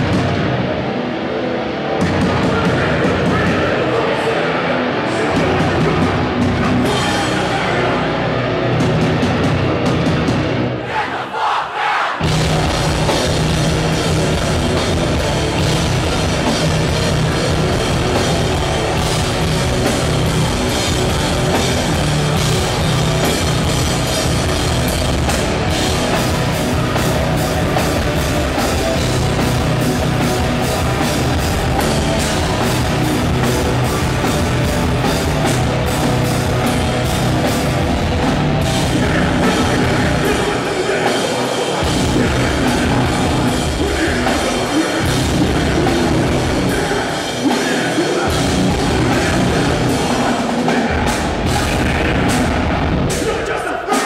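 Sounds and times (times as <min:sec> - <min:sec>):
distorted electric guitars: 0:00.0 - 0:10.9, 0:12.2 - 0:54.0
drum kit: 0:02.0 - 0:04.0, 0:05.4 - 0:10.7, 0:12.2 - 0:54.0.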